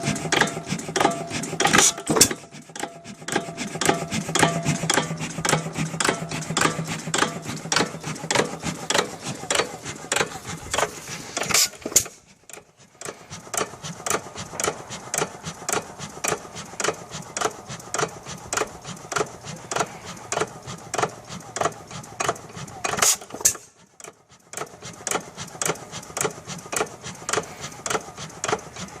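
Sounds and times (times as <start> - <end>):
engine parts clicking evenly: 0.0 - 29.0
loud engine stroke: 0.0 - 29.0.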